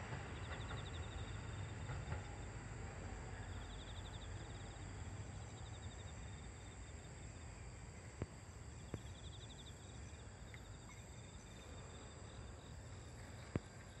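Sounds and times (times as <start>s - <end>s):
insects chirping in trills: 0.0s - 14.0s.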